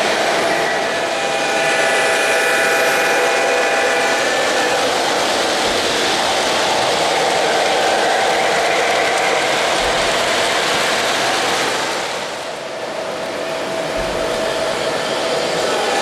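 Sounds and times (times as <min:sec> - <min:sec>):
model trains whirring on track: 0:00.0 - 0:16.0.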